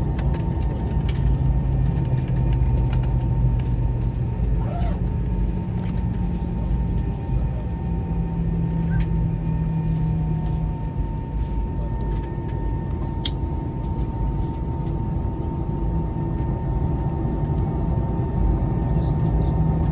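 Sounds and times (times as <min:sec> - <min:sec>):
engine and air system rumble: 0:00.0 - 0:19.9.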